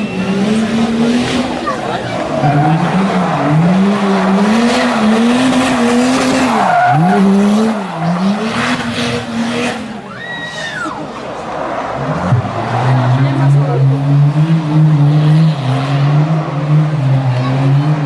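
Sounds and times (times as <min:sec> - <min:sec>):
car engine at high revs: 0:00.0 - 0:18.0
tyres skidding: 0:00.0 - 0:18.0.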